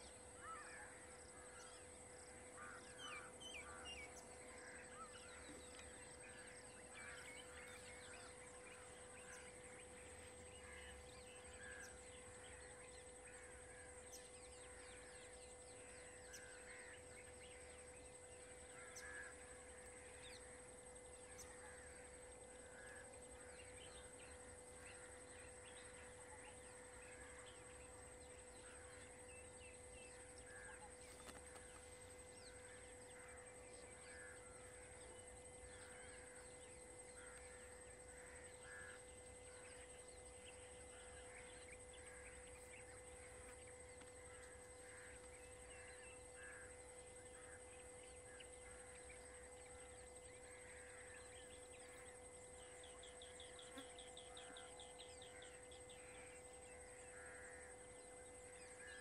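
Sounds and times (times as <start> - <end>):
steady high hum: 0.0 - 59.0.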